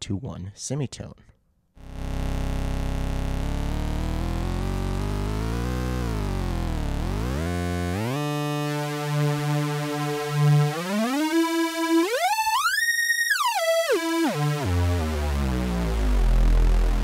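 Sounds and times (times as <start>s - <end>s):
buzzy oscillator drone stepping pitch: 1.8s - 17.0s.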